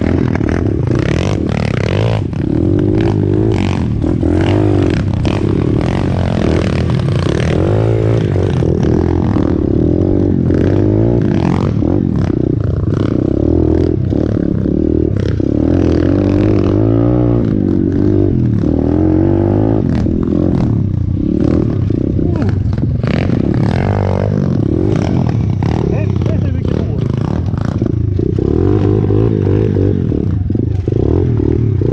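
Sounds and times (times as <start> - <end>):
bike rattling and knocking: 0.0 - 31.9
motorbike engine revving: 0.0 - 31.9.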